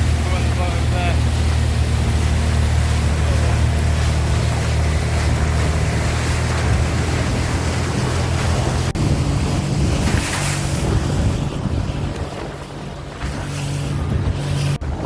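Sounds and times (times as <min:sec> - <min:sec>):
rushing water: 0:00.0 - 0:15.0
speedboat engine hum: 0:00.0 - 0:15.0
wind buffeting microphone: 0:00.0 - 0:15.0.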